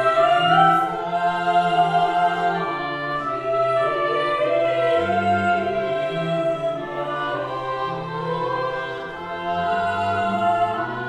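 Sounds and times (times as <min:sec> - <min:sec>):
bowed strings: 0:00.0 - 0:11.0
voices singing held notes: 0:00.0 - 0:11.0.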